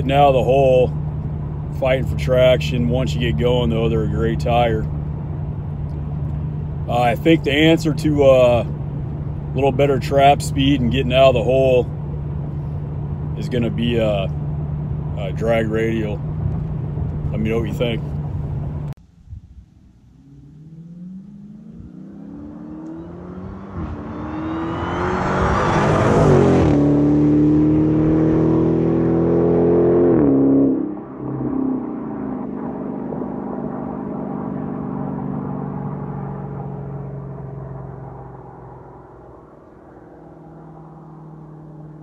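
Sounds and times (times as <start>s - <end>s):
car engine at full throttle: 0.0s - 42.0s.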